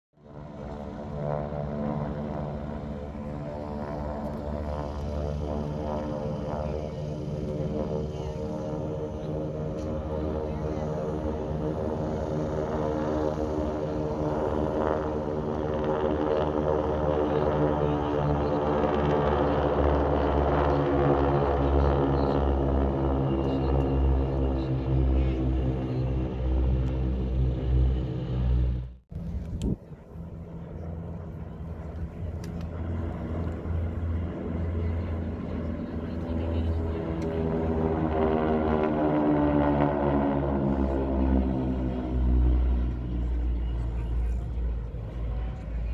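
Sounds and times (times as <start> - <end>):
propeller planes droning overhead: 0.2 - 45.9.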